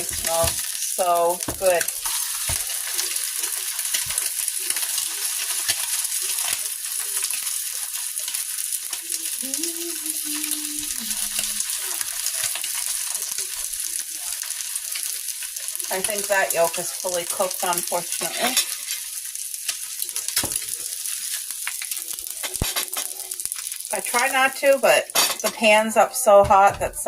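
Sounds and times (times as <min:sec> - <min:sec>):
eggs sizzling in a pan: 0:00.0 - 0:27.0.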